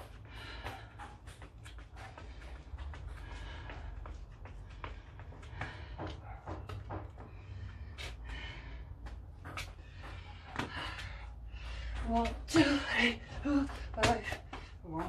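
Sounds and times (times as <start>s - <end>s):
person breathing hard: 0.0s - 14.9s.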